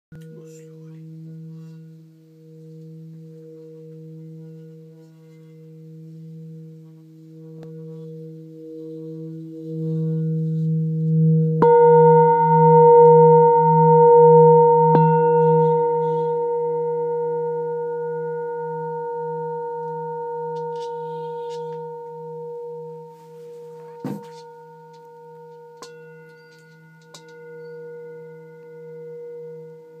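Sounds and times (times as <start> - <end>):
singing bowl ringing: 0.2 - 30.0
singing bowl struck: 0.2 - 30.0.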